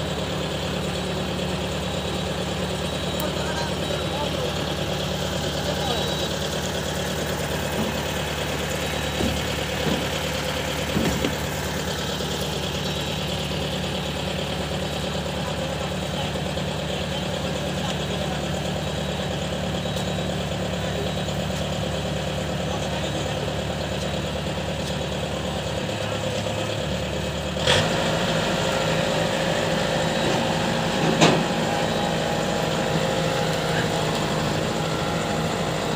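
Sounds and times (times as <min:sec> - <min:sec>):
farm machinery engine running: 0:00.0 - 0:35.9.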